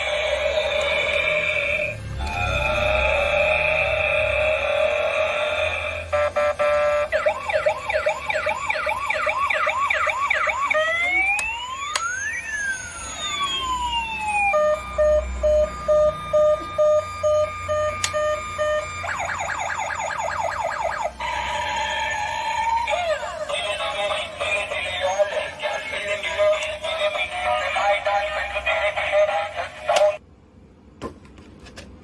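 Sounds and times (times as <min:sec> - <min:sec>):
toy police siren: 0:00.0 - 0:30.2.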